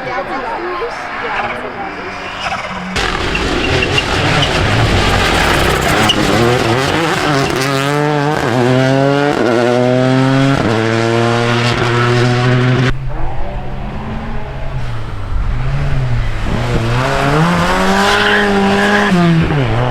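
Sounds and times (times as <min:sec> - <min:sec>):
rally car passing at full throttle: 0:00.0 - 0:19.9.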